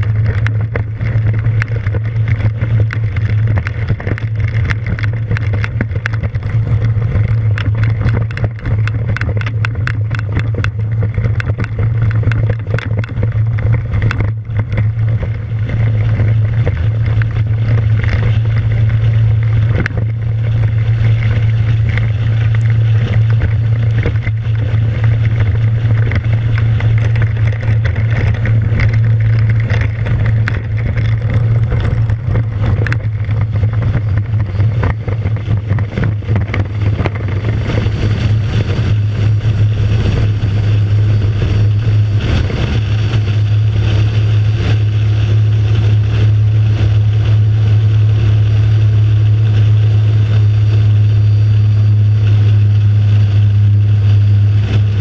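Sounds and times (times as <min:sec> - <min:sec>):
aircraft engine and propeller drone: 0:00.0 - 0:55.0
wind rushing over microphone: 0:00.0 - 0:55.0.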